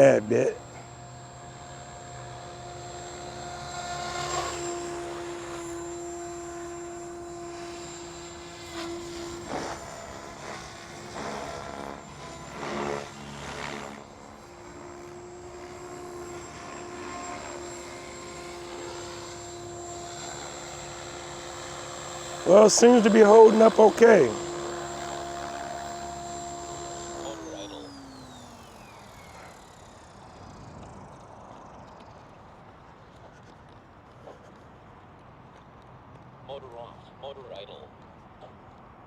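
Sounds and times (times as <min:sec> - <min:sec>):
rc helicopter motor and rotor whine: 0:00.0 - 0:33.6.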